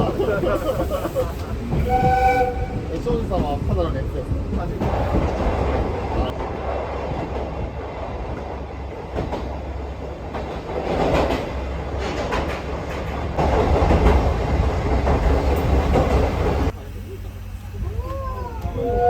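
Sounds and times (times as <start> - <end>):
wheels clicking on rails: 0.0 - 16.8
train rumbling on rails: 0.0 - 19.0.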